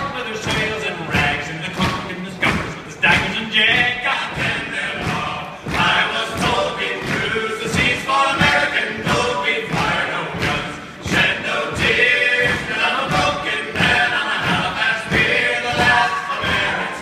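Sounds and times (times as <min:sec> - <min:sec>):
steady thudding beat: 0:00.0 - 0:17.0
men singing in chorus: 0:02.3 - 0:17.0.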